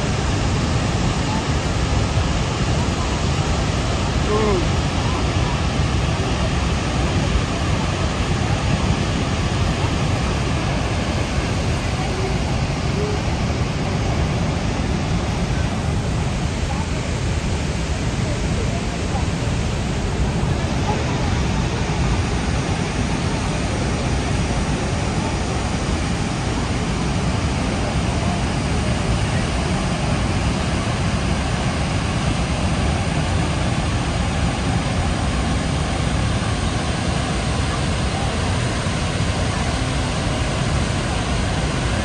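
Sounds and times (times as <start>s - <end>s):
waterfall roaring: 0.0s - 42.0s.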